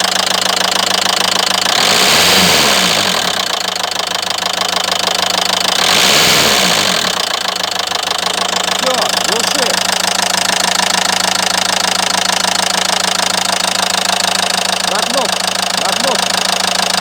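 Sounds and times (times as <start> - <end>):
diesel engine knocking: 0.0 - 17.0.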